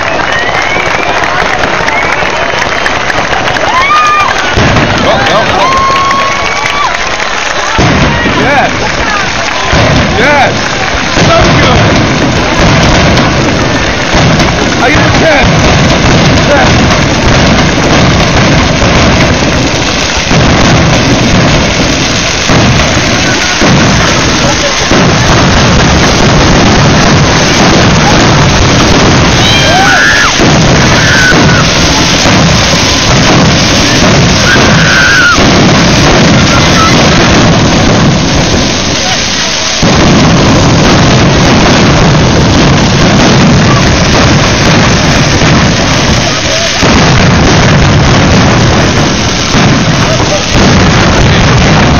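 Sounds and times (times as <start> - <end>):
fireworks rumbling and crackling: 0.0 - 51.9.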